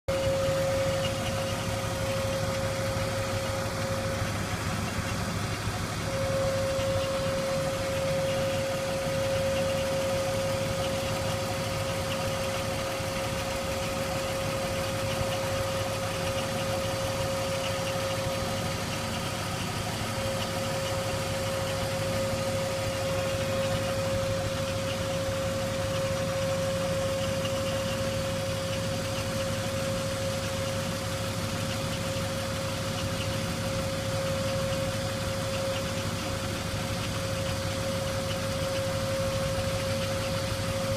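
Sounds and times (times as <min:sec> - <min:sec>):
car engine idling: 0:00.0 - 0:40.9
steady high whine: 0:00.1 - 0:40.9.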